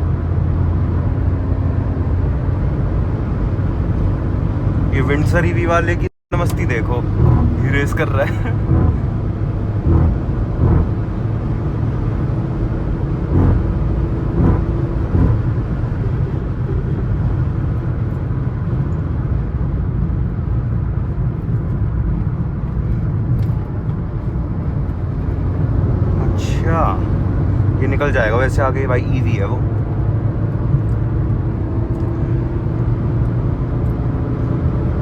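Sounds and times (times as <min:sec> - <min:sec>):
car engine and tyres rumbling: 0:00.0 - 0:35.0.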